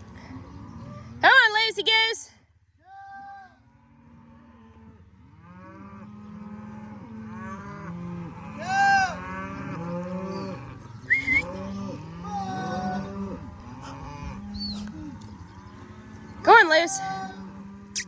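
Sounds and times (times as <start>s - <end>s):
cows and calves mooing: 0.0s - 1.2s, 3.6s - 18.0s.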